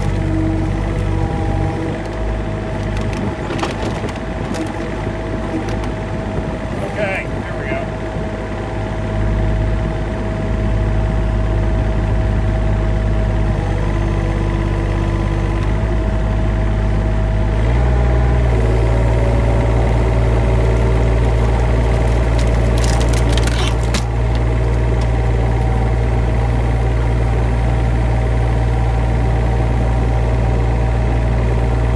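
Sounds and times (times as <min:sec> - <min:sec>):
machine engine running: 0:00.0 - 0:31.9.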